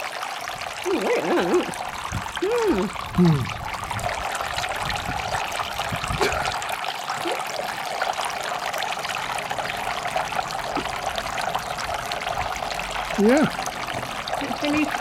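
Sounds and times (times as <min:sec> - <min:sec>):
fountain water trickling and splashing: 0:00.0 - 0:15.0.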